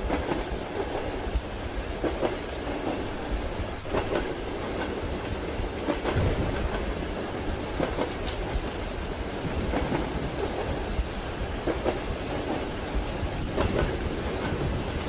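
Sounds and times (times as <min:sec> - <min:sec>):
rain on windows: 0:00.0 - 0:15.0
train wheels rumbling on rails: 0:00.0 - 0:15.0.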